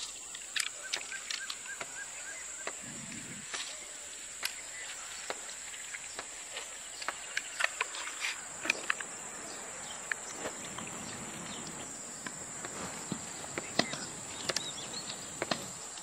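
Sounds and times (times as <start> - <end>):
insect chirring: 0.0 - 16.0.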